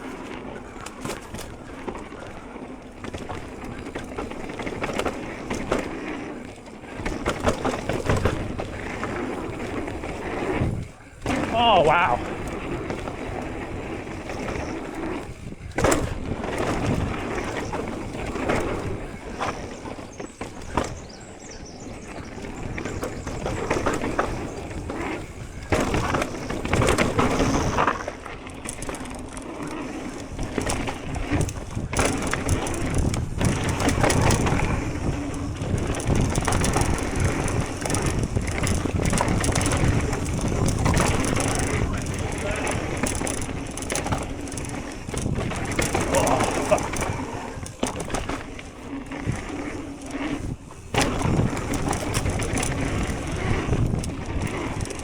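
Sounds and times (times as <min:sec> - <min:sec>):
bike rattling over bumps: 0:00.0 - 0:55.0
tyres crunching over dirt: 0:00.0 - 0:55.0.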